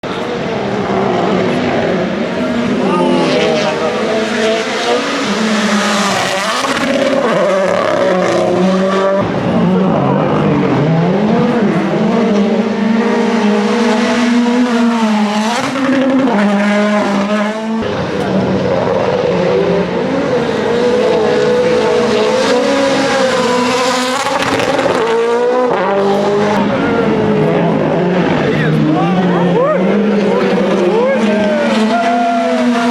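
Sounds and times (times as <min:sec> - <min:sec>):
rally car engines revving: 0:00.0 - 0:32.9.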